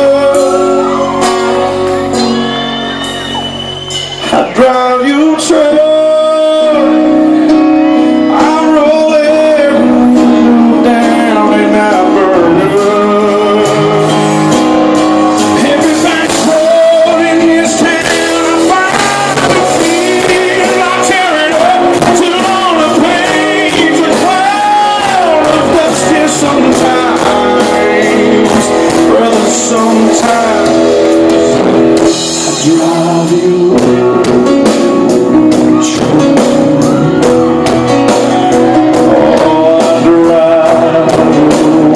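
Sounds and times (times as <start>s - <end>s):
person singing: 0.0s - 2.8s, 4.2s - 41.9s
country band playing a ballad: 0.0s - 41.9s.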